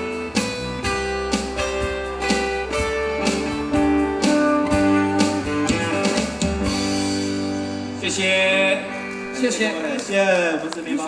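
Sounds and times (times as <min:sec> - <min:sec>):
live band with electric guitars: 0:00.0 - 0:11.0.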